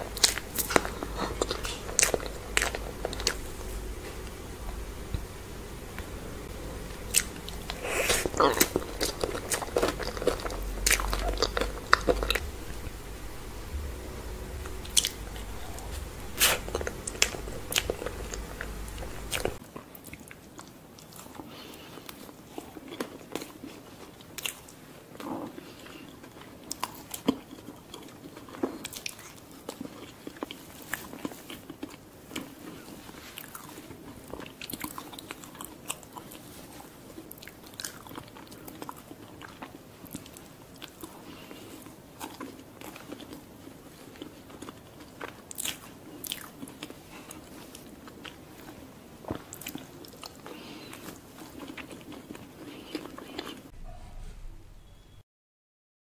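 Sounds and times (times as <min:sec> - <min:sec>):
chewing with wet mouth smacks: 0:00.0 - 0:53.7.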